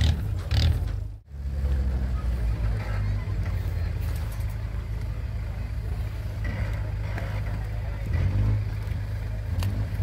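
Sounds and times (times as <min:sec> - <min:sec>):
off-road vehicle engine rumbling: 0:00.0 - 0:10.0.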